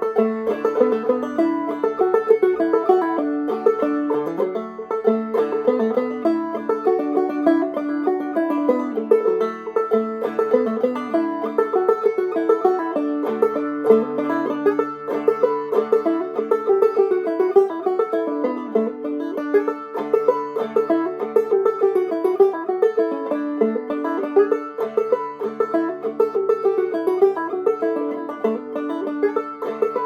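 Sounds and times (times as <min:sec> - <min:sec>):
banjo picking fiddle tune: 0:00.0 - 0:30.0.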